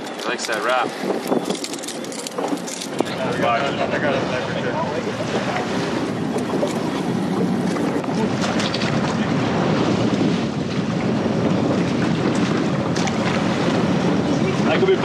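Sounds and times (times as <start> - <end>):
outboard motor running: 0.0 - 15.0
water rushing along hull: 0.0 - 15.0
wind buffeting microphone: 0.0 - 15.0.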